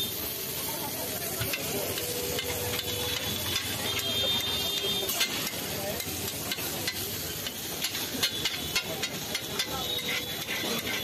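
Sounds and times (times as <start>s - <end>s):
meat sizzling on a griddle: 0.0s - 11.0s
metal spatula scraping a griddle: 1.2s - 11.0s.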